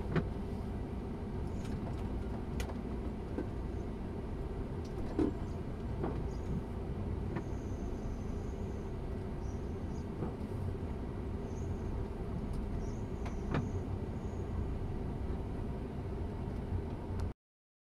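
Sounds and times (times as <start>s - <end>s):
truck engine rumbling: 0.0s - 17.2s.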